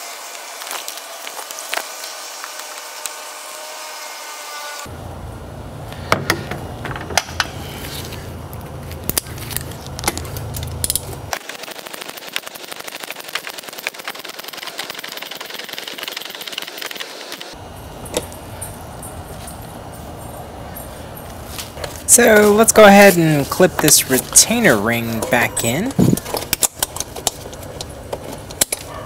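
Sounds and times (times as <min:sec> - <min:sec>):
low hum: 0:04.8 - 0:29.0.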